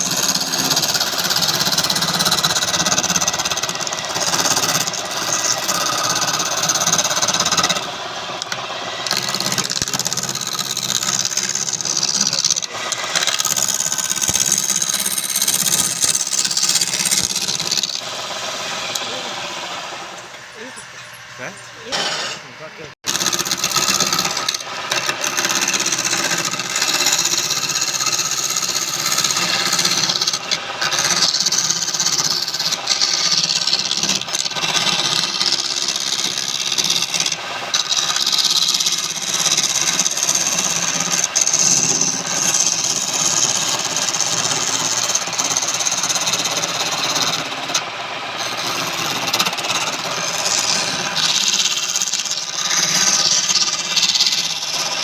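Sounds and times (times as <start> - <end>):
wood lathe cutting: 0.0 - 55.0.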